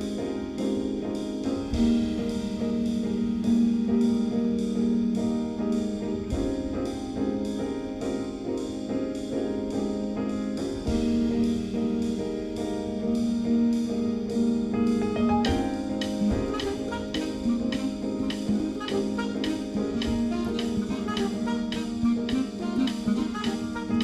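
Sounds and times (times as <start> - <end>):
piano piece: 0.0 - 24.0.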